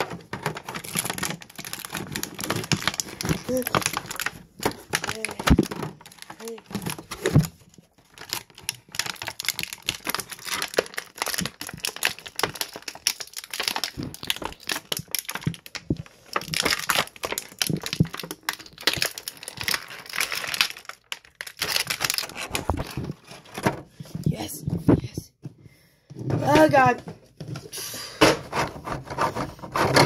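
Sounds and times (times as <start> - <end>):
toy packaging crinkling: 0.0 - 23.7, 26.4 - 27.0.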